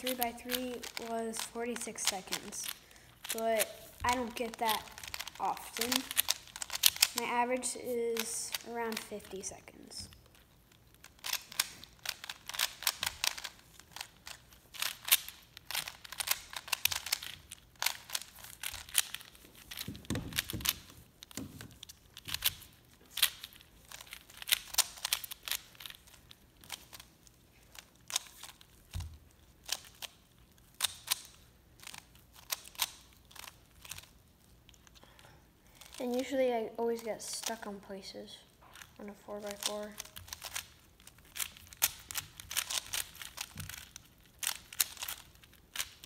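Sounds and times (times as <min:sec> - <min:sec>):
plastic puzzle cubes clicking: 0:00.0 - 0:07.3, 0:08.2 - 0:09.6, 0:10.3 - 0:35.0, 0:38.8 - 0:46.0.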